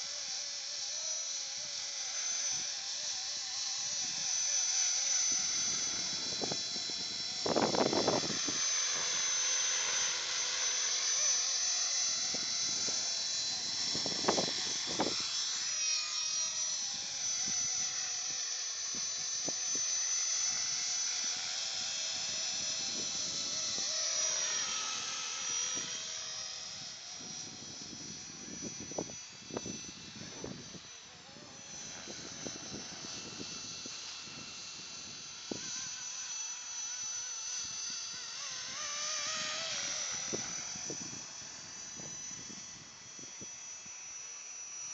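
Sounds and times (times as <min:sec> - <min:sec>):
model helicopter whine: 0:00.0 - 0:44.9.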